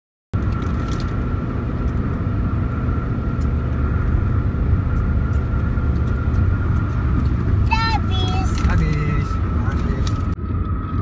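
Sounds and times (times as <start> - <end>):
car road and engine rumble: 0.4 - 11.0.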